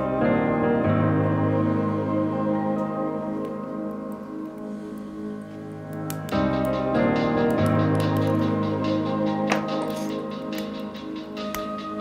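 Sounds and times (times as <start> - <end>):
background music sustained chords: 0.0 - 12.0.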